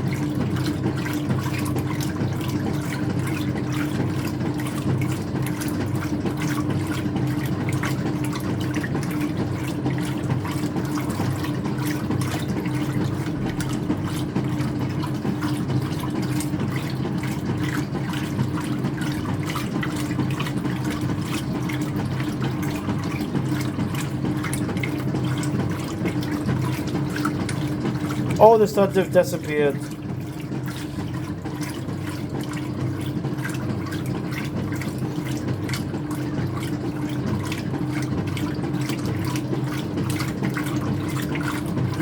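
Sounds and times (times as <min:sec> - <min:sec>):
washer low hum: 0:00.0 - 0:42.0
water splashing in washer tub: 0:00.0 - 0:42.0.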